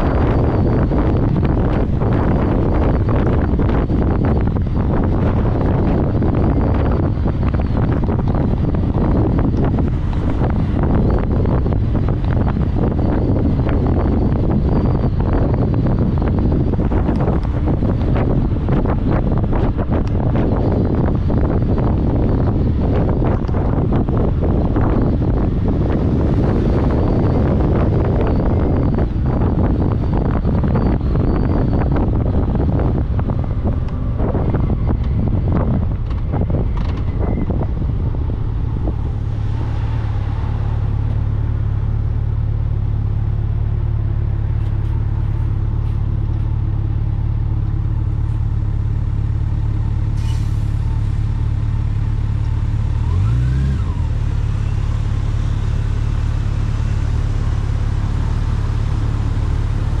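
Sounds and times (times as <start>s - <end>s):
vehicle engine and road noise: 0.0s - 60.0s
wind buffeting microphone: 0.0s - 60.0s.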